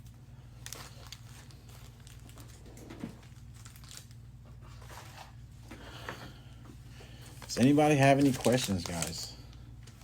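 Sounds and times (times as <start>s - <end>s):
card packs crinkling and rustling: 0.0s - 6.2s, 7.1s - 10.0s
steady low hum: 0.0s - 10.0s.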